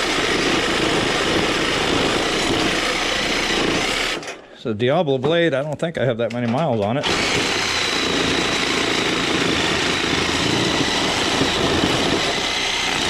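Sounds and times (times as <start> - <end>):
reciprocating saw cutting metal: 0.0 - 4.5, 7.0 - 13.0.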